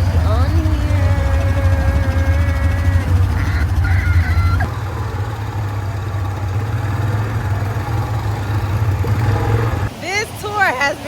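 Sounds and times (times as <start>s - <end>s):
quad bike engine droning: 0.0s - 11.0s.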